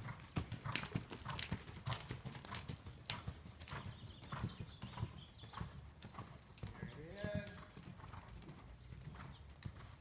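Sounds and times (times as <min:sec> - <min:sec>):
horse hoofbeats on sand: 0:00.0 - 0:10.0.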